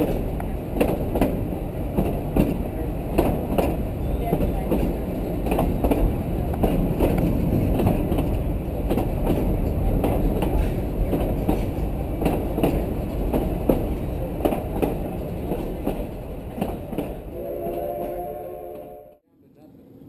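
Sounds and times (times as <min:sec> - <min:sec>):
wheels clicking on rail joints: 0:00.0 - 0:18.2.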